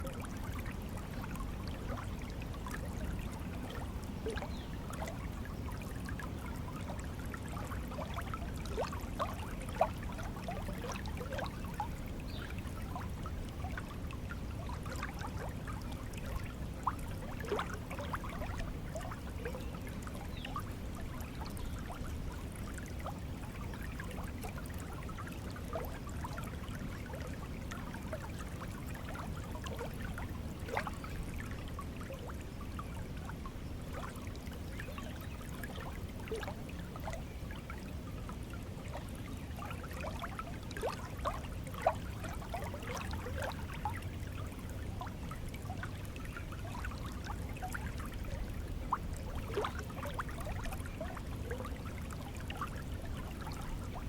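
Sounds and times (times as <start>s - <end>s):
small stream flowing: 0.0s - 54.0s.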